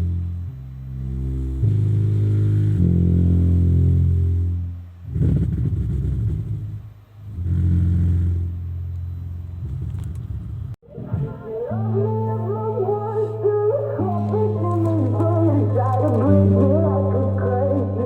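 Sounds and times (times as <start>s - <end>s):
bass-heavy music: 0.0s - 18.0s.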